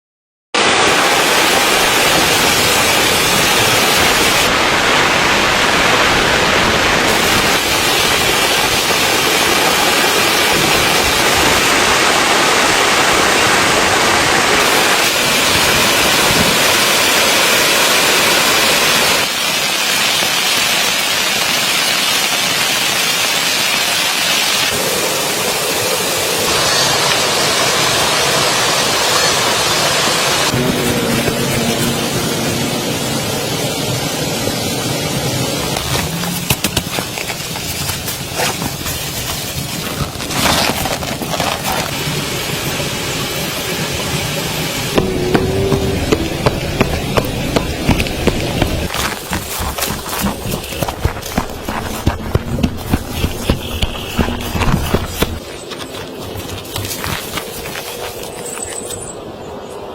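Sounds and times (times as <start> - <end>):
rain on a tent: 0.6 - 58.4.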